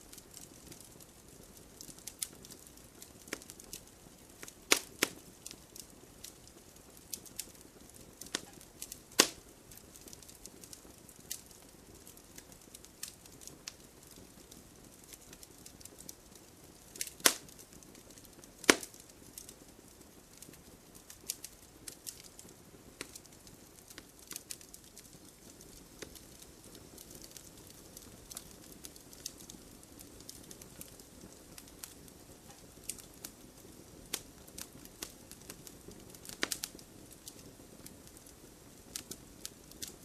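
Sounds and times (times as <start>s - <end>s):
campfire popping and snapping: 0.0s - 40.0s
faint low hiss: 0.0s - 40.0s.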